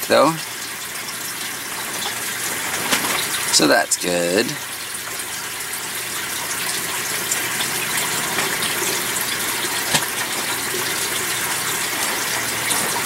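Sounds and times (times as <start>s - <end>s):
bubbling running water: 0.0s - 13.0s.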